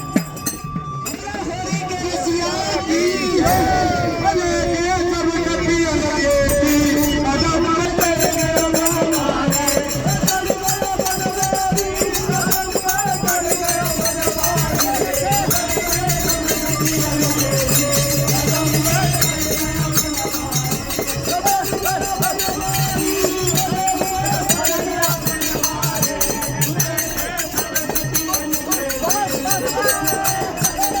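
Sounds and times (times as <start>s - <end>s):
jingling percussion: 0.0s - 4.4s, 5.9s - 31.0s
person singing: 0.0s - 31.0s.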